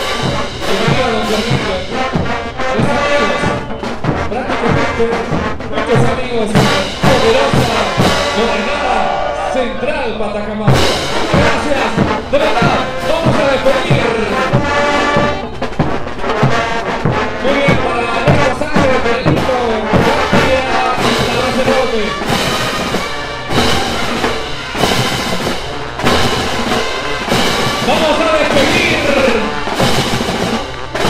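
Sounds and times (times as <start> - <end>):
bass drum: 0.0 - 9.9, 10.6 - 31.0
brass band melody: 0.0 - 31.0
snare drum: 0.0 - 31.0.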